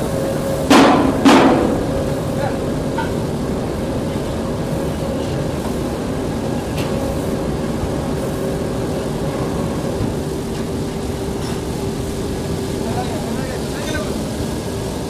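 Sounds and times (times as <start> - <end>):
conveyor mechanical drone: 0.0 - 15.0.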